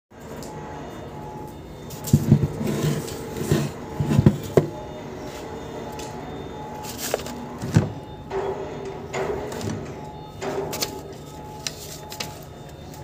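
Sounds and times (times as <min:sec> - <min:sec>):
steady background hum: 0:00.1 - 0:13.0.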